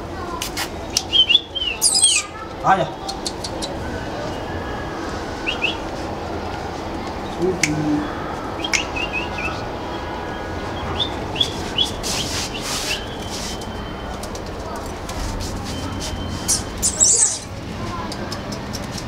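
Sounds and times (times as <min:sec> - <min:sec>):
small birds chirping: 0:00.4 - 0:05.9, 0:07.2 - 0:14.7, 0:15.7 - 0:19.0.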